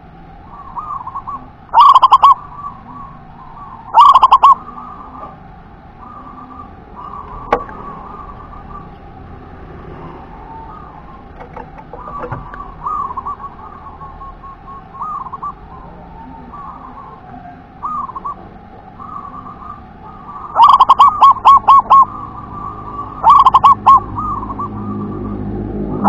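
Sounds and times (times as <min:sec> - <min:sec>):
dove cooing: 0:00.4 - 0:26.0.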